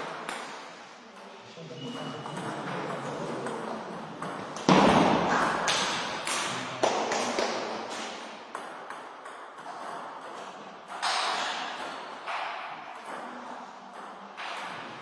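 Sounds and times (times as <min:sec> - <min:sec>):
table tennis ball hits echoing: 0:00.0 - 0:01.3, 0:02.0 - 0:15.0.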